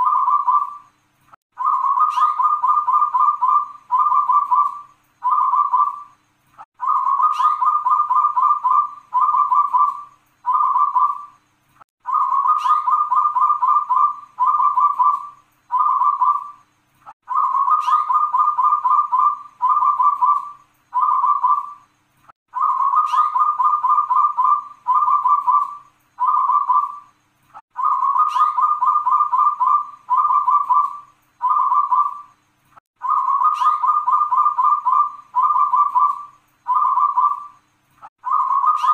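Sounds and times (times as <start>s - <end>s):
dove cooing song: 0.0s - 0.9s, 1.6s - 6.2s, 6.8s - 11.4s, 12.0s - 16.6s, 17.2s - 21.9s, 22.5s - 27.1s, 27.7s - 32.4s, 33.0s - 37.6s, 38.2s - 38.9s.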